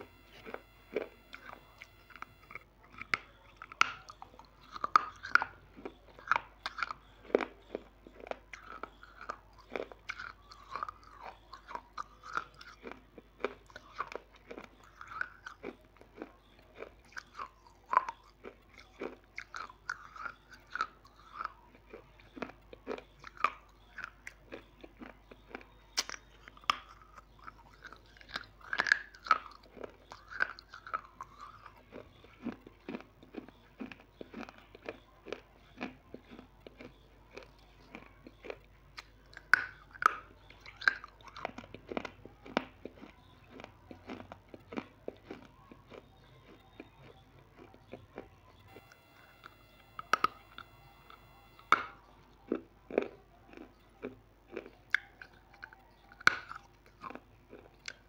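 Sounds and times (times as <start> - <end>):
chewing: 0.0 - 58.0
crunchy snack crunching: 0.0 - 58.0.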